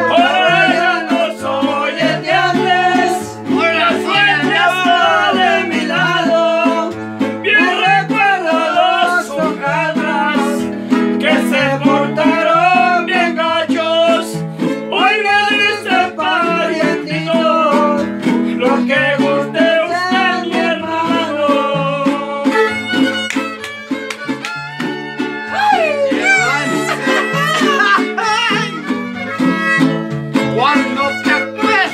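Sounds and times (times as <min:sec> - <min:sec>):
fiddle melody: 0:00.0 - 0:31.9
plucked guitars: 0:00.0 - 0:31.9.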